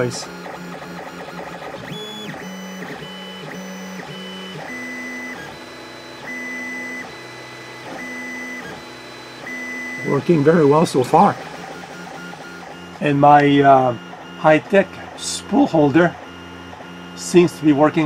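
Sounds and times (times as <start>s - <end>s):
printer stepper motors whining: 0.0s - 18.0s.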